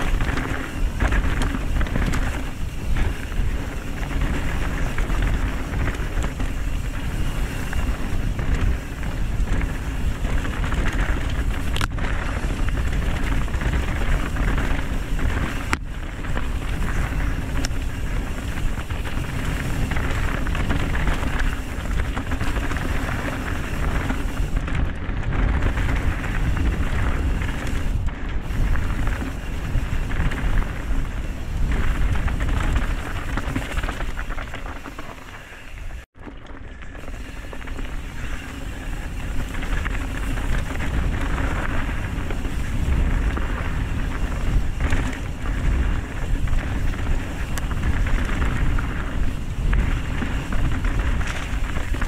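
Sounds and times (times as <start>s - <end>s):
bike tyre and frame noise: 0.0s - 52.0s
wind on microphone: 0.0s - 52.0s.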